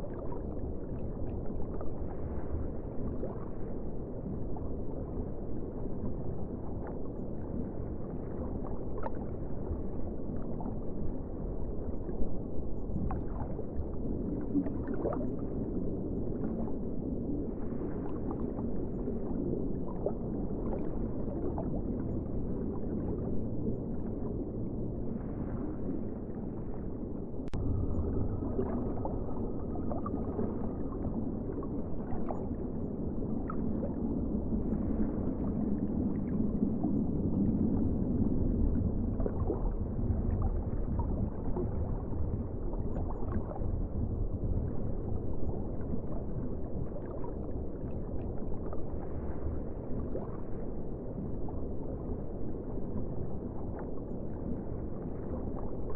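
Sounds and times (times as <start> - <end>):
muffled ocean water rushing: 0.0 - 55.9
water gurgles: 0.0 - 55.9.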